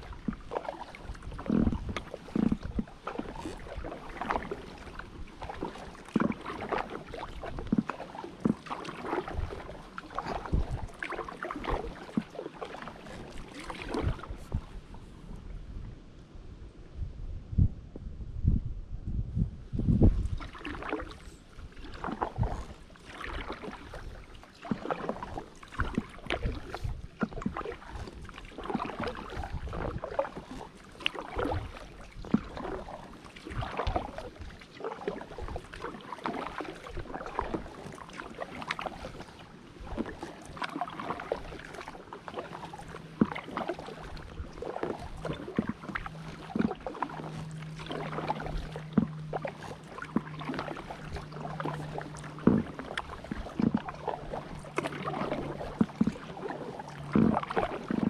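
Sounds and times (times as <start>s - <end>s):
paddle strokes splashing in water: 0.0s - 15.6s, 20.0s - 58.0s.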